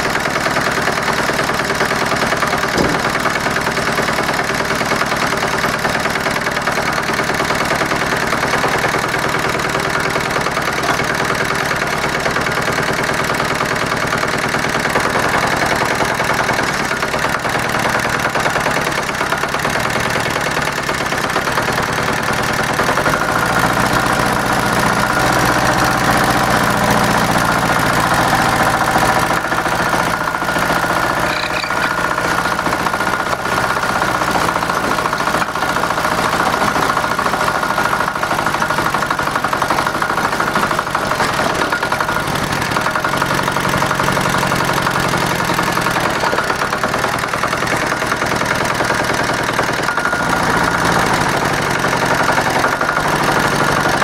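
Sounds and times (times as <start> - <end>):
small tractor engine running: 0.0 - 54.0.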